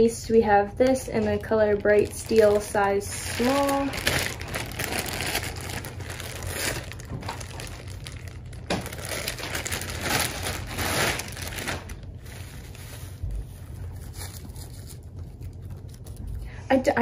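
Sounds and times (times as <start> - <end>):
plastic bag crinkling: 0.8 - 16.6.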